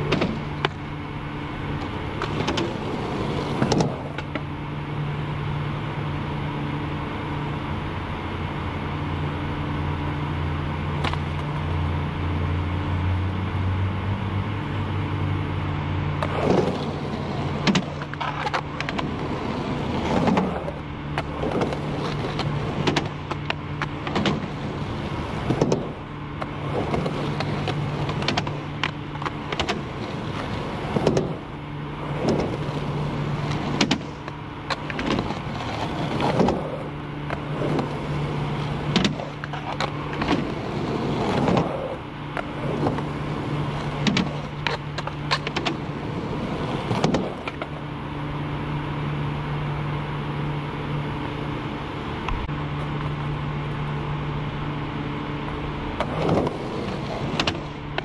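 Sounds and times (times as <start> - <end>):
skateboard wheels rolling on concrete: 0.0 - 58.0
steady low hum: 0.0 - 58.0.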